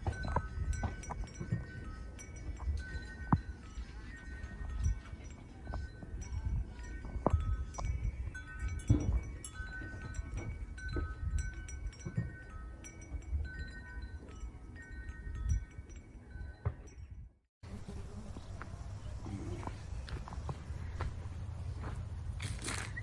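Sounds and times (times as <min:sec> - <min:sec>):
wind rumbling on microphone: 0:00.0 - 0:16.0, 0:16.7 - 0:23.0
wind chimes ringing: 0:00.0 - 0:23.0.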